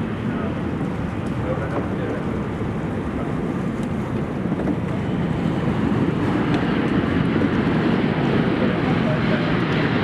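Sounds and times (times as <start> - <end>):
jet engine rush: 0.0 - 10.0
wind buffeting microphone: 0.0 - 10.0.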